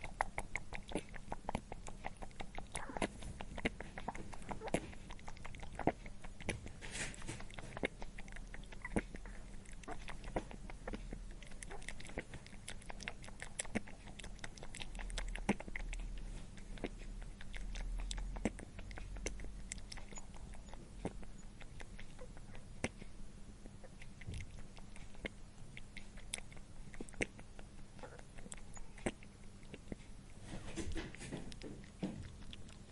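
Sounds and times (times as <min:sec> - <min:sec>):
low steady hum: 0:00.0 - 0:32.9
rabbit crunching food: 0:00.0 - 0:32.9.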